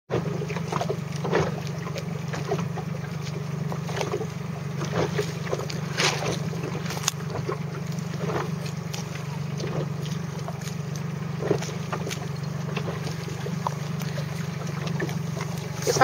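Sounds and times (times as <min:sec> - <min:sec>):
motorboat engine running: 0:00.1 - 0:16.0
water splashing against hull: 0:00.1 - 0:16.0.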